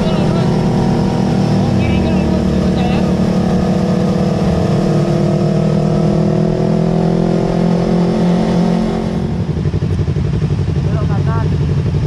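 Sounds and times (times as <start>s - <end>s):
motorcycle engine at steady revs: 0.0s - 12.0s.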